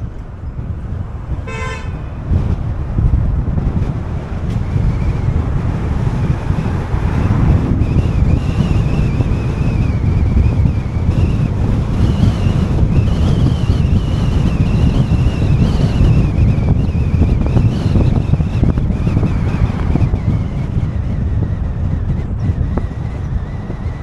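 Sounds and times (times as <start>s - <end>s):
road noise: 0.0s - 24.0s
wind rumbling on microphone: 0.0s - 24.0s.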